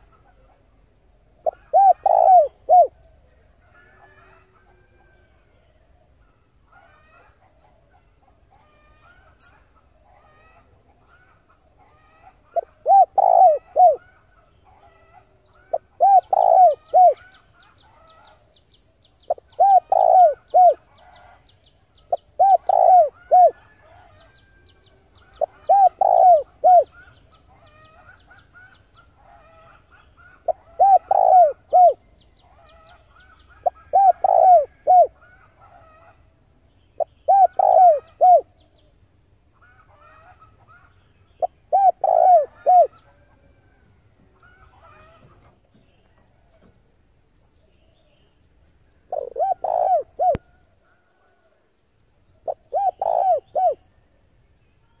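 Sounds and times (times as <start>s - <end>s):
birds chirping: 0.0s - 5.2s, 6.1s - 51.4s, 52.1s - 55.0s
dove cooing: 1.4s - 5.2s, 6.7s - 18.4s, 19.3s - 21.4s, 22.0s - 36.3s, 37.0s - 38.6s, 39.6s - 46.7s, 49.0s - 51.6s, 52.4s - 53.9s.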